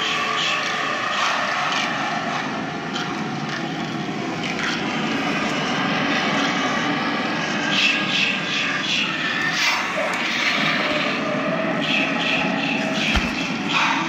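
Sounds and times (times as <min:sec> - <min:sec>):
motors and gears droning: 0:00.0 - 0:14.0.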